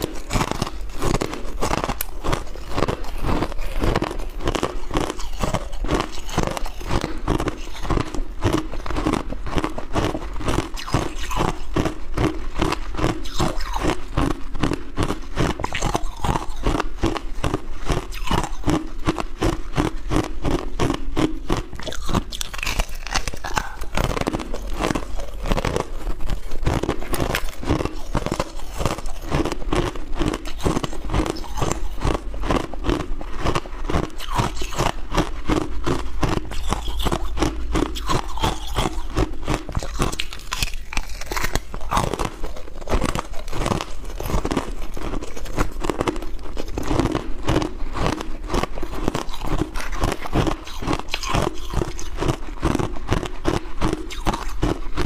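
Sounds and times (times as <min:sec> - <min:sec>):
crunching shaved ice: 0:00.0 - 0:55.0.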